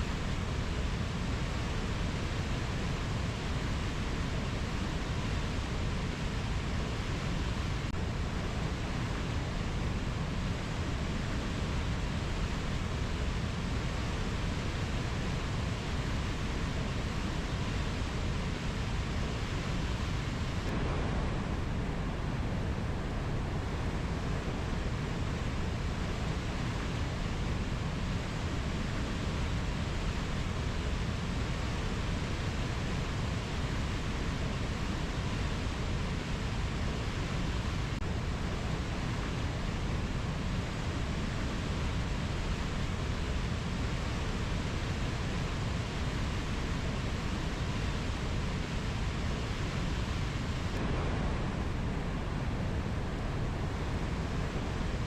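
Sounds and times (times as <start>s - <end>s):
rainforest rushing noise: 0.0s - 55.0s.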